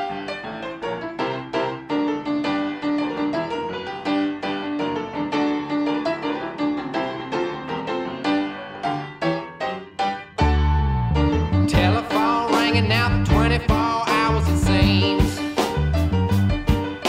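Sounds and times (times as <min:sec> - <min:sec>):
piano playing chords: 0:00.0 - 0:17.0.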